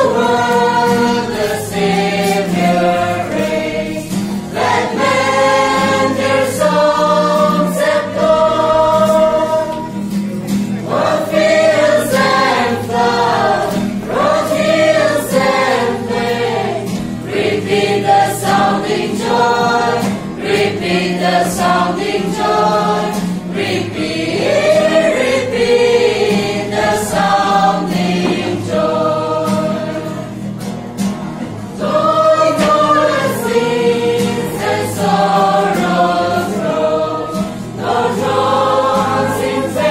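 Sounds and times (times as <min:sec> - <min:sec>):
group singing a carol: 0:00.0 - 0:39.9
strummed acoustic guitar: 0:00.0 - 0:39.9.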